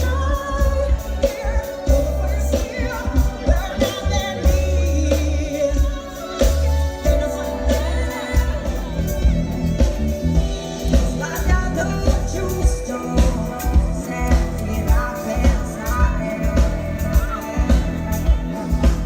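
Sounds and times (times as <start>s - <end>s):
heavy bass line: 0.0s - 19.0s
live soul band playing: 0.0s - 19.0s
steady drum beat: 0.0s - 19.0s
woman singing: 0.0s - 19.0s.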